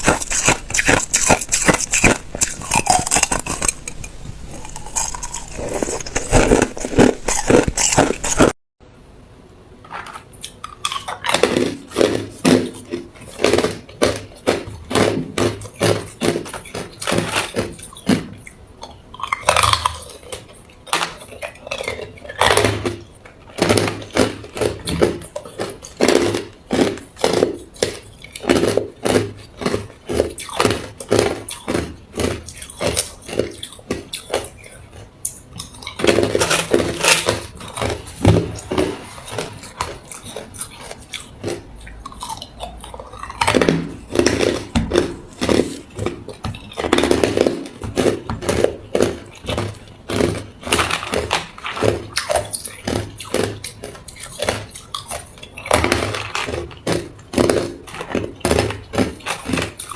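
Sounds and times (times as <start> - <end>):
person crunching ice cubes: 0.0 - 8.6, 10.0 - 59.9.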